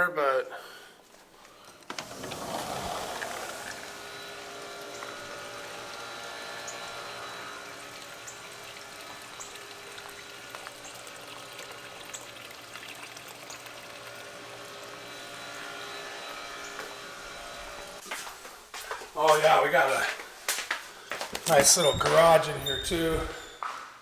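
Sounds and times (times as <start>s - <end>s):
water running and trickling: 1.1s - 23.5s.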